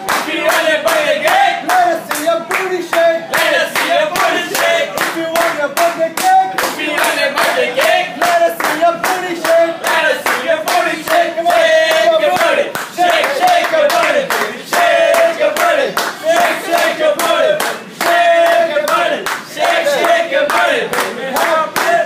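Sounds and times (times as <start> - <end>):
group clapping in rhythm: 0.0 - 22.0
group singing a birthday song: 0.0 - 22.0.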